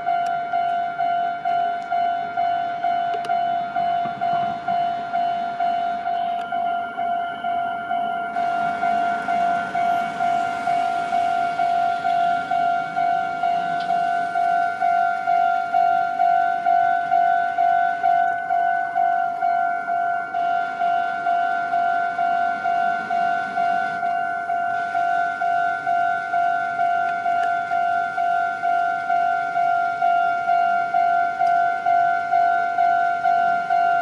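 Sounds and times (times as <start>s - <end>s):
level crossing warning bell: 0.0s - 34.0s.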